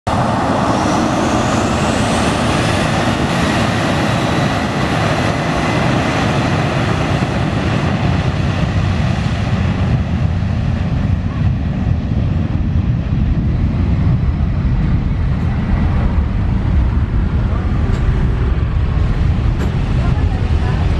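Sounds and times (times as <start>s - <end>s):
deep jet engine rumble: 0.1s - 20.9s
jet engine whine: 0.1s - 20.9s.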